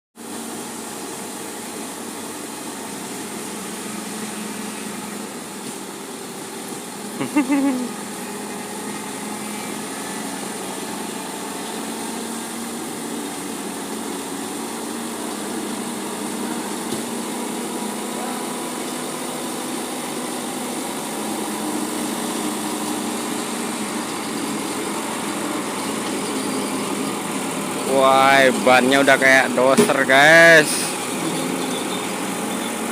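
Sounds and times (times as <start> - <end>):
truck engine running: 0.7 - 32.9.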